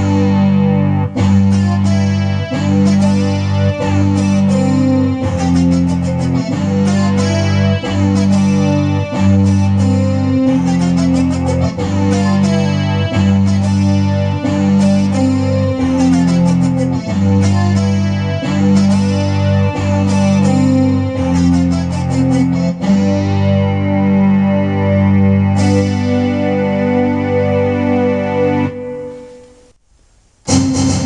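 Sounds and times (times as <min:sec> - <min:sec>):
electronic keyboard plucked voice: 0:00.0 - 0:29.4
low held bass notes: 0:00.0 - 0:29.8.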